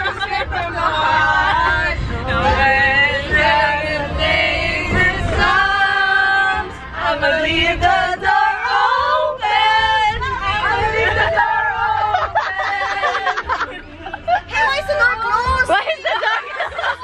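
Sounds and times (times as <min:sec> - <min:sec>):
low rumble of moving van: 0:00.0 - 0:17.0
women singing together: 0:00.0 - 0:17.0.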